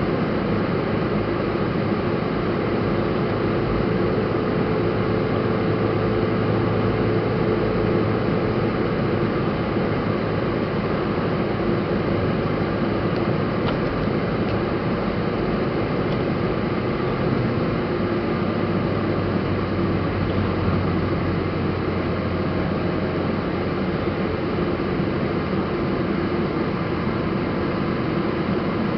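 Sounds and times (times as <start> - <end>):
car road and engine noise: 0.0 - 28.9.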